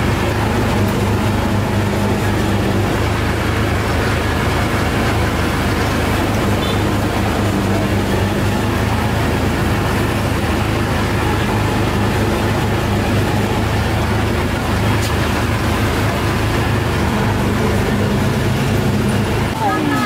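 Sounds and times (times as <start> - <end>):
low engine drone: 0.0 - 20.0
road traffic noise: 0.0 - 20.0.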